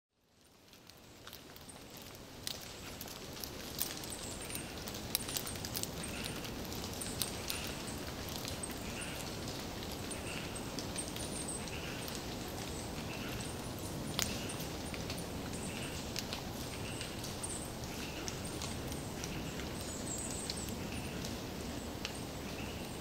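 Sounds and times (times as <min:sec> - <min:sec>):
sharp ticks and clicks: 0:00.7 - 0:20.8.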